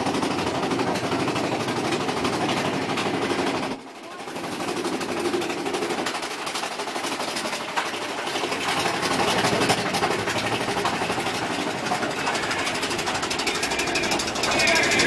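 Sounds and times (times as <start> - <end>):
coaster cars rattling on track: 0.0 - 15.0.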